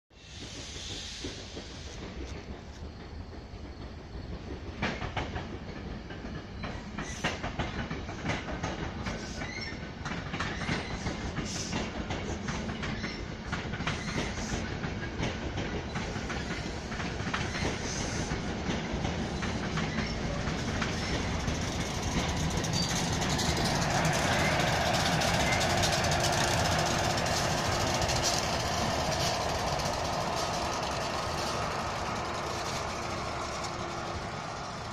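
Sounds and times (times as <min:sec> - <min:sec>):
train rumble: 0:00.1 - 0:34.9
train wheels clicking over rail joints: 0:00.1 - 0:34.9.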